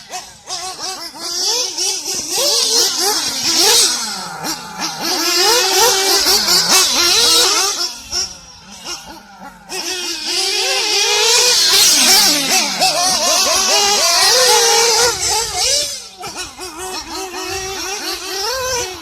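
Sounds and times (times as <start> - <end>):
model car engine revving: 0.0 - 19.0.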